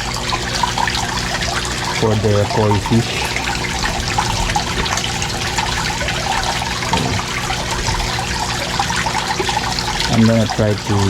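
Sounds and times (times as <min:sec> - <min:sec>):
faint steady hum: 0:00.0 - 0:11.0
water trickling into a pond: 0:00.0 - 0:11.0.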